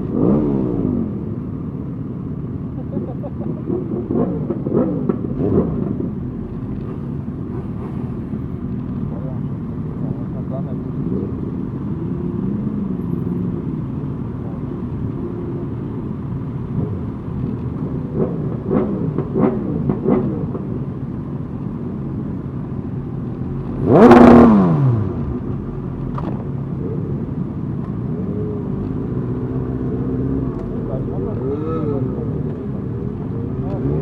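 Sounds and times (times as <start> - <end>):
loud motorcycle rev: 0.0 - 8.4, 10.0 - 21.1, 23.4 - 27.4, 28.0 - 34.0
motorcycle engines running: 0.0 - 34.0.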